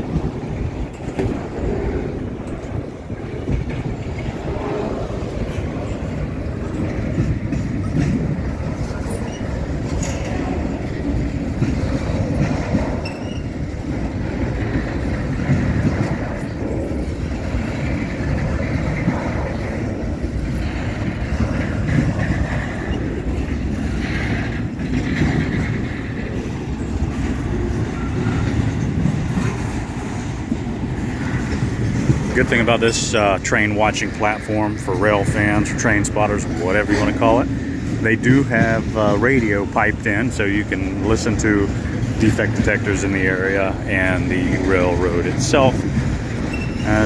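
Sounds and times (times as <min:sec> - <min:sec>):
train wheels rumbling on rail: 0:00.0 - 0:47.0
wheels clicking over rail joints: 0:00.0 - 0:47.0.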